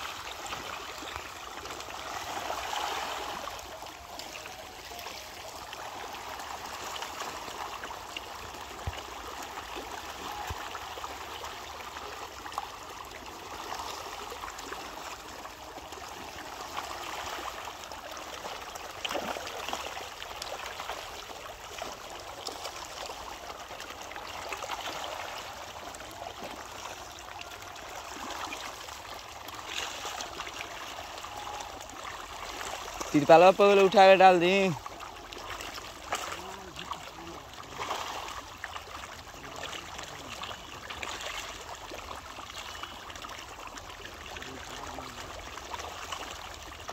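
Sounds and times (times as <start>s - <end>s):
fish splashing in water: 0.0s - 46.9s.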